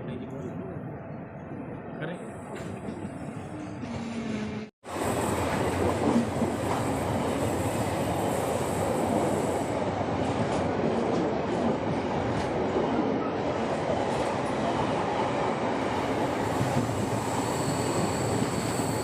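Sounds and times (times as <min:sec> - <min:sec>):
train wheels rumbling on rails: 0:00.2 - 0:19.0.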